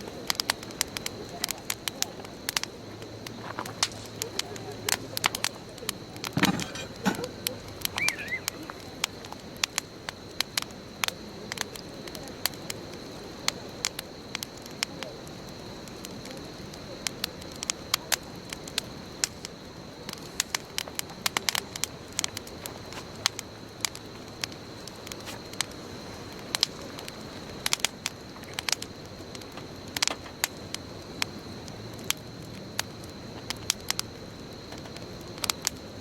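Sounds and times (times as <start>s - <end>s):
bonfire crackling: 0.0s - 36.0s.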